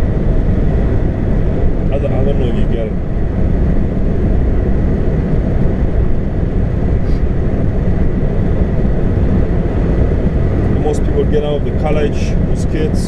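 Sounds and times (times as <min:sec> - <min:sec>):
car moving rumble: 0:00.0 - 0:13.0.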